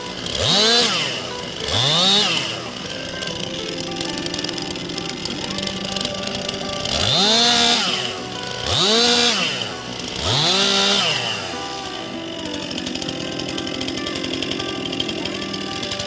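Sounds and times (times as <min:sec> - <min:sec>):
chainsaw revving and idling: 0:00.0 - 0:16.0.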